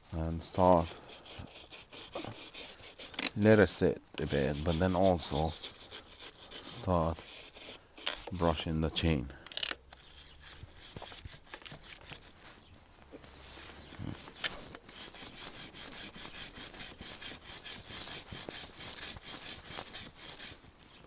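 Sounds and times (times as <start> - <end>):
brush scrubbing a chain: 0.0 - 21.0.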